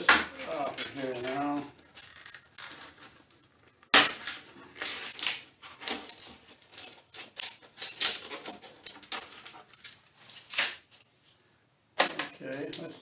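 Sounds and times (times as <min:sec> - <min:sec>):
epoxy strip cracking and snapping: 0:00.0 - 0:11.1, 0:12.0 - 0:12.9.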